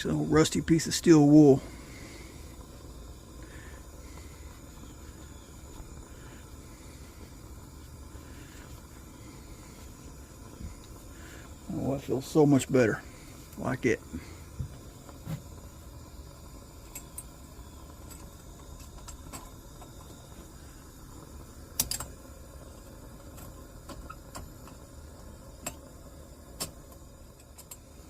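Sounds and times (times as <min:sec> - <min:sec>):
faint background hiss: 0:00.0 - 0:28.0.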